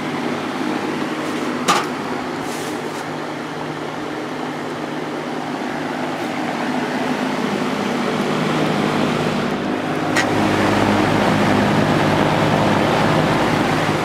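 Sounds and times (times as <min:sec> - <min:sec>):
box fan running: 0:00.0 - 0:14.0.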